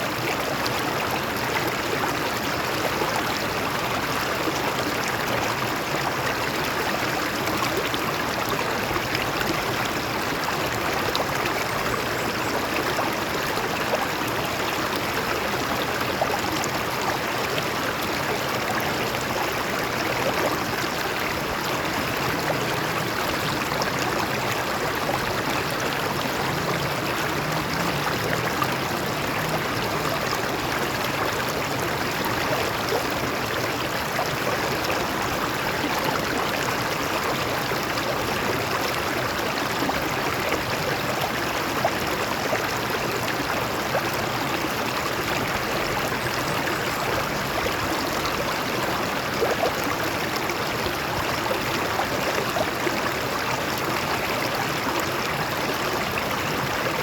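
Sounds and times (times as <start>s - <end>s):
stream water splashing over rocks: 0.0s - 57.0s.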